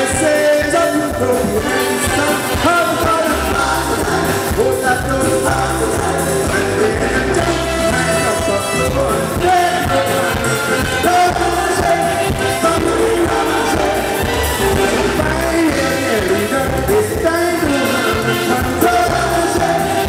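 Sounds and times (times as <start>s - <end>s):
calypso band playing: 0.0s - 20.0s
man singing into a microphone: 0.0s - 20.0s.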